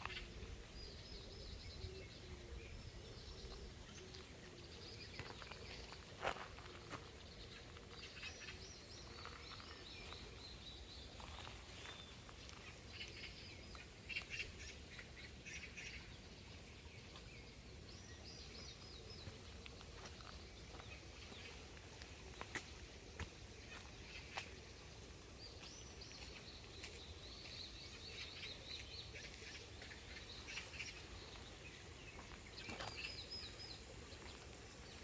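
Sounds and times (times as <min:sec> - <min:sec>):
faint songbirds chirping: 0:00.0 - 0:35.0.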